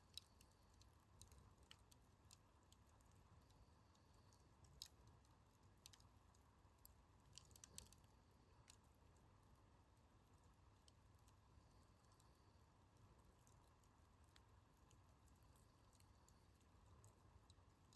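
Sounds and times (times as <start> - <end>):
campfire crackling: 0.0 - 17.9
low steady fire hiss: 0.0 - 17.9.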